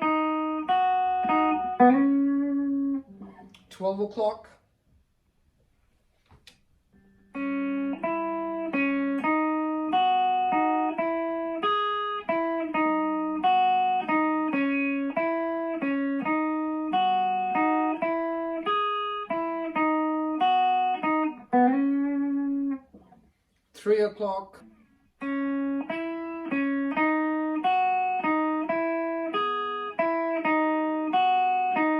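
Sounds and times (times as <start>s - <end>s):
electric guitar riff: 0.0s - 3.7s, 6.9s - 23.2s, 24.6s - 31.9s.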